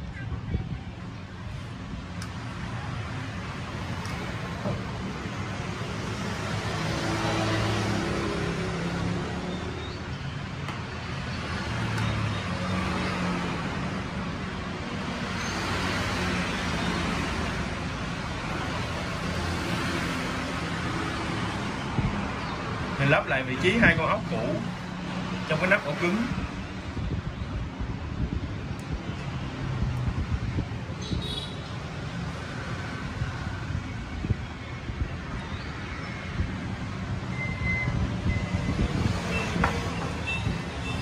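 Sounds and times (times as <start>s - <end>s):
traffic passing by: 0.0s - 41.0s.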